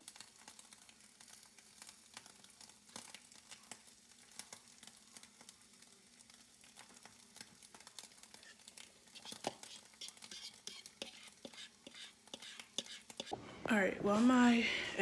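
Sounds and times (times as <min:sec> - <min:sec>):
eggs sizzling in a frying pan: 0:00.0 - 0:15.0.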